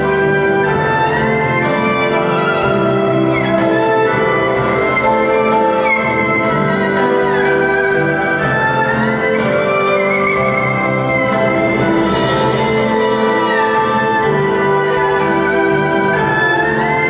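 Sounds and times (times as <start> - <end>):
erhu bowed melody: 0.0 - 17.0
held accompaniment chords: 0.0 - 17.0.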